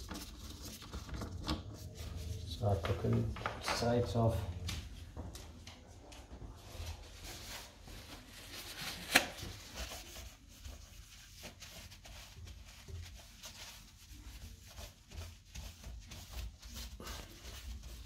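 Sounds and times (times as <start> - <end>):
cloth rubbing toilet rim: 0.0 - 4.3, 6.6 - 18.0.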